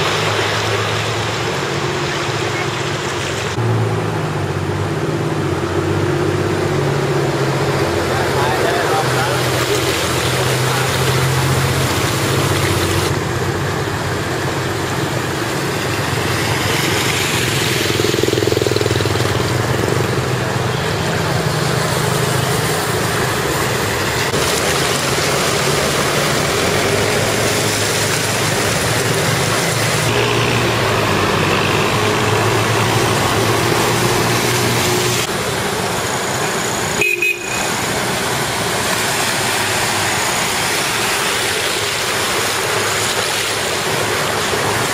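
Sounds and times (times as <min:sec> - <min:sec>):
scooter and car engines running: 0:00.0 - 0:44.9
water splashing under wheels: 0:00.0 - 0:44.9.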